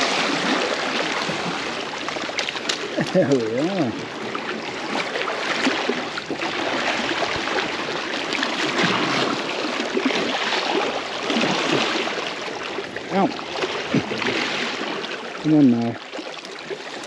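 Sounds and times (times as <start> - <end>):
seawater lapping over rocks: 0.0 - 17.0.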